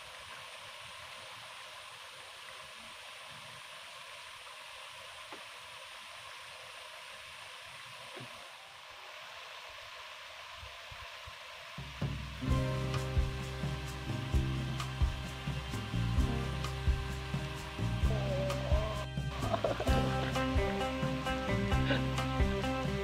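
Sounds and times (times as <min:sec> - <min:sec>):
stream running water: 0:00.0 - 0:23.0.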